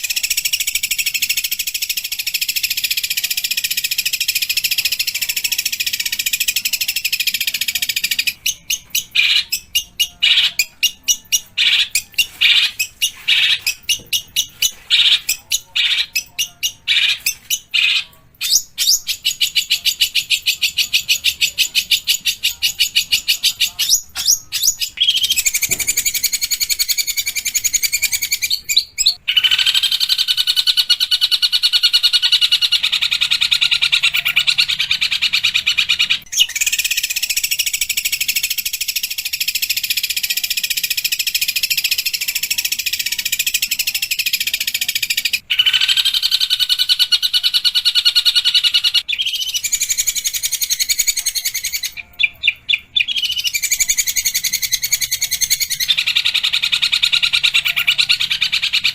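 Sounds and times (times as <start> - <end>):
bird harsh scratchy chatter: 0.0 - 52.0.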